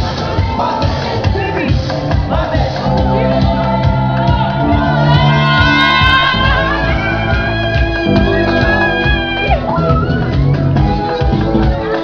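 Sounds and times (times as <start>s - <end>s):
loud music playing: 0.0s - 12.0s.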